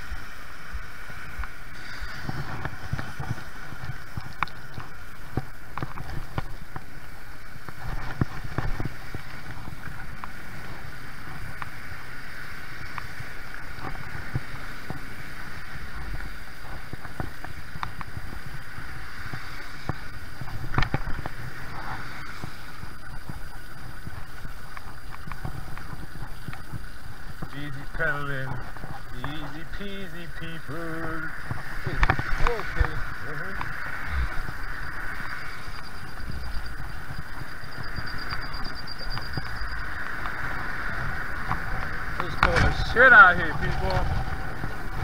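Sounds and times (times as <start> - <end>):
wind rush: 0.0 - 45.0.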